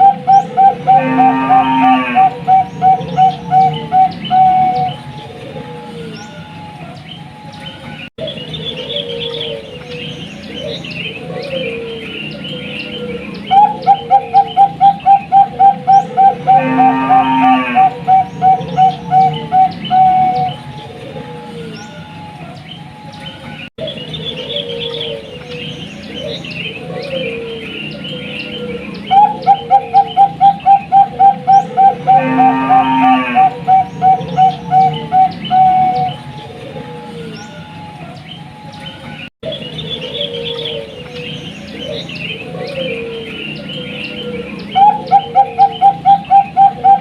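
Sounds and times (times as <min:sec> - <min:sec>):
small birds chirping: 0:00.0 - 0:01.2, 0:02.0 - 0:16.8, 0:17.7 - 0:32.4, 0:33.4 - 0:47.0
dove cooing: 0:00.0 - 0:07.5, 0:08.2 - 0:22.6, 0:23.8 - 0:38.7, 0:39.4 - 0:47.0.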